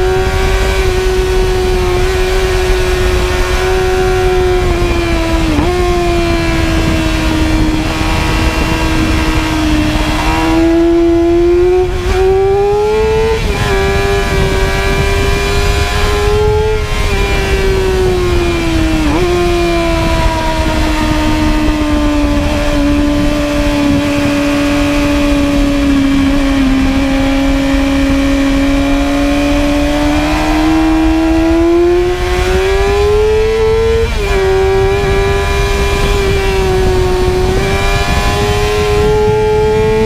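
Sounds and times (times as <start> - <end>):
motorcycle engine revving: 0.0 - 40.0
wind rushing: 0.0 - 40.0.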